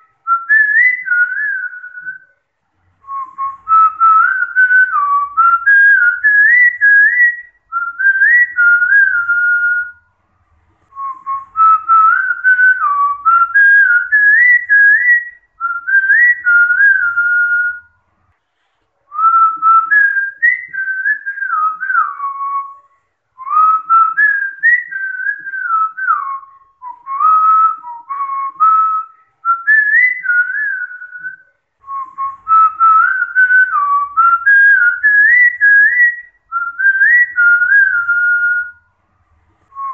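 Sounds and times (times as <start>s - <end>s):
person whistling a folk tune: 0.1s - 2.3s, 3.0s - 10.0s, 10.9s - 18.0s, 19.1s - 38.9s.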